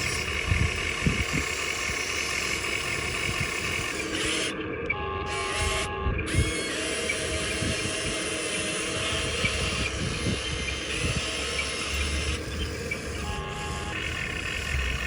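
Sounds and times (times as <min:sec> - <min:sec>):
model excavator motor whine: 0:00.0 - 0:15.0.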